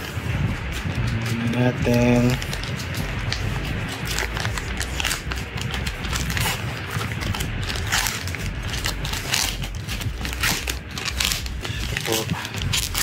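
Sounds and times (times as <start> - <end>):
plastic bag crinkling: 0.8 - 13.0.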